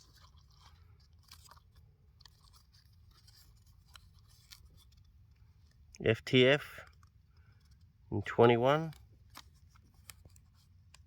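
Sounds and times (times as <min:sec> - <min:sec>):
paper clicks and rustles: 0:00.0 - 0:06.0, 0:06.8 - 0:11.0.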